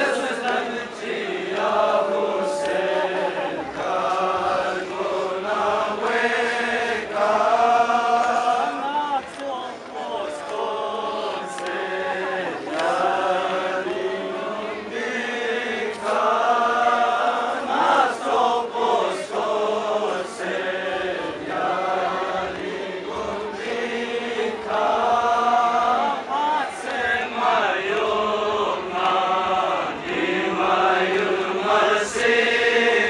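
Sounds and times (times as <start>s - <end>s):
men chanting a lament: 0.0s - 33.0s.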